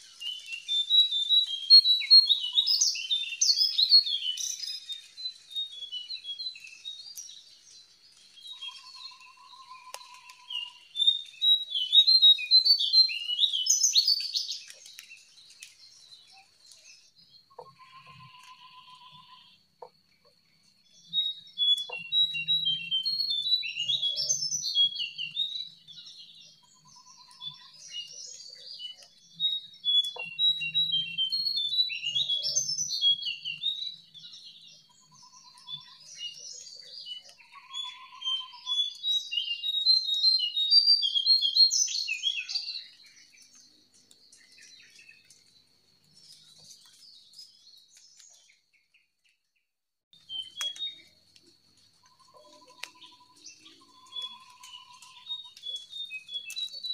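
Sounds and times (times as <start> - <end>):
birds chirping: 0.0 - 49.4, 50.2 - 56.9.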